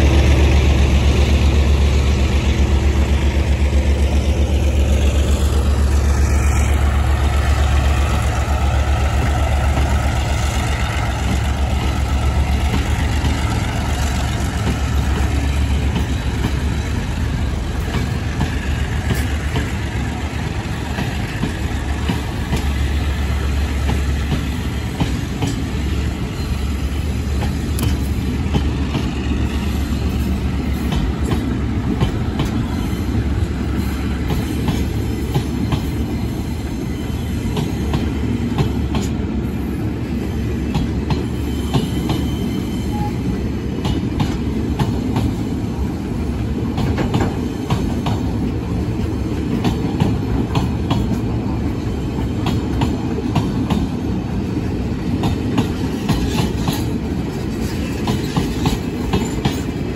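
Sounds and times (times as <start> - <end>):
train wheels clicking on rails: 0.0 - 59.9.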